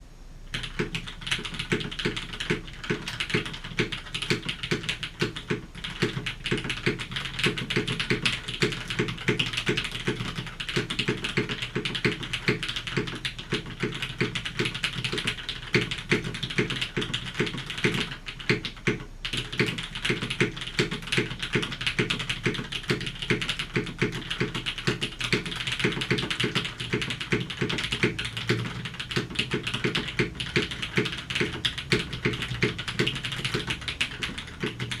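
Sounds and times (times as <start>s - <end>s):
fast typing on mechanical keyboard: 0.5s - 35.0s.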